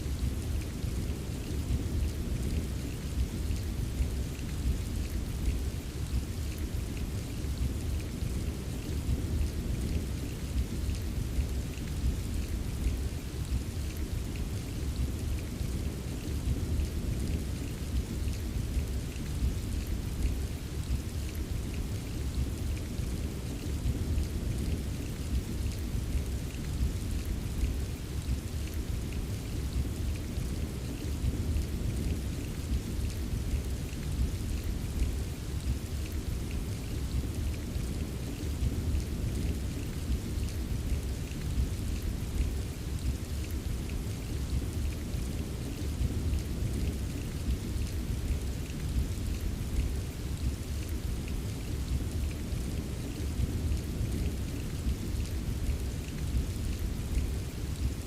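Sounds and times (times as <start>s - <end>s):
faint raindrop ticks: 0.0s - 58.0s
steady rain falling: 0.0s - 58.0s.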